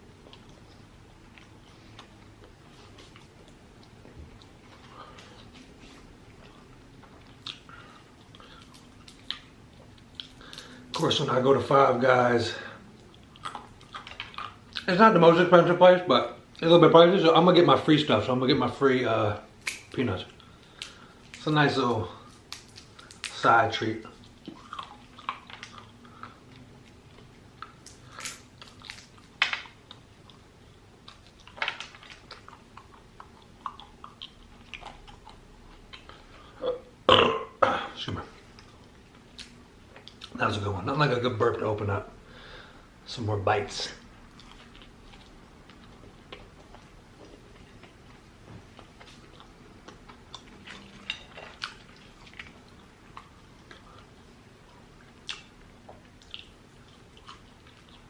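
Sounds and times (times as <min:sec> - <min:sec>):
chewing and crunching peanuts: 0:00.0 - 0:15.5, 0:19.4 - 0:36.6, 0:43.8 - 0:58.0.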